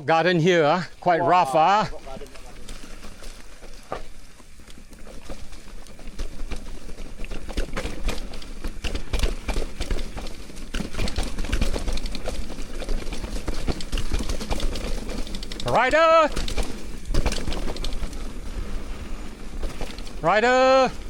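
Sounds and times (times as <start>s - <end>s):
mountain bike rattling over rocks: 0.2s - 21.0s.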